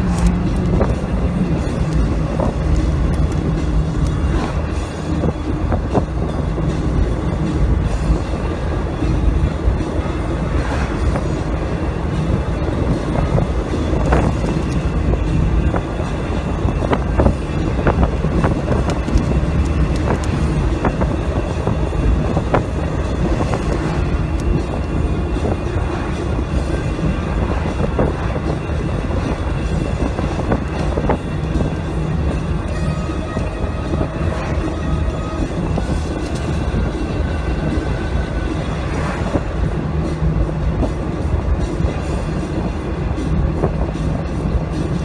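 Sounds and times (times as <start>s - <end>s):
engine and tyres rumbling: 0.0s - 45.0s.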